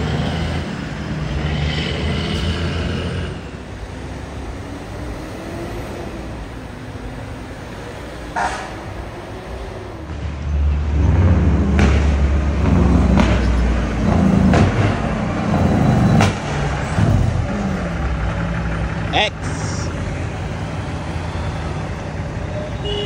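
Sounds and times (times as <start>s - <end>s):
road traffic passing: 0.0s - 23.0s
truck diesel engine drone: 0.0s - 23.0s.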